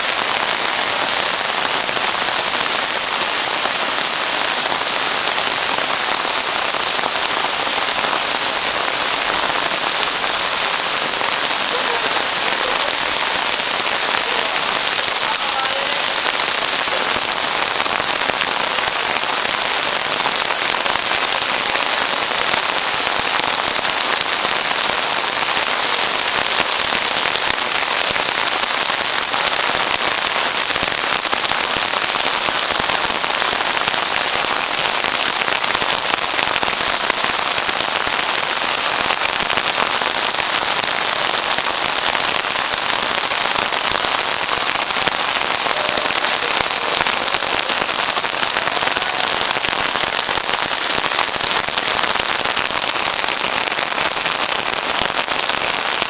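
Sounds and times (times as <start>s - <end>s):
heavy rain on rooftops: 0.0s - 56.0s.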